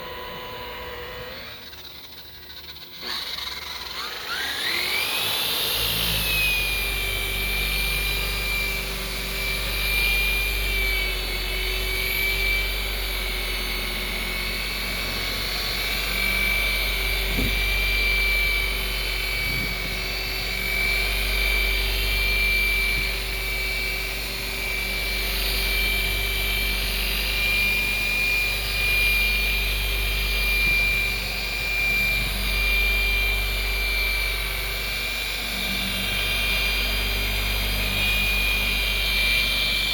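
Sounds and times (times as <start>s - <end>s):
rotary buffer motor whine: 0.0s - 39.9s.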